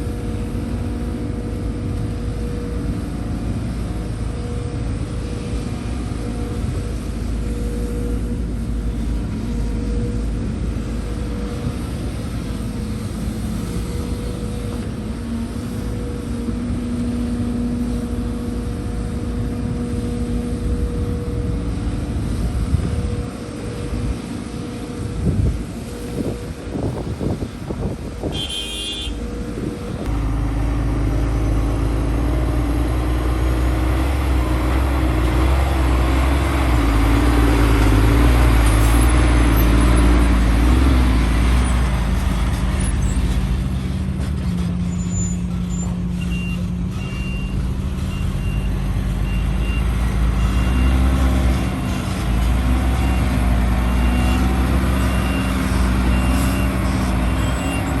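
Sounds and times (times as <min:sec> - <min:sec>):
heavy diesel engines working: 0:00.0 - 0:58.0.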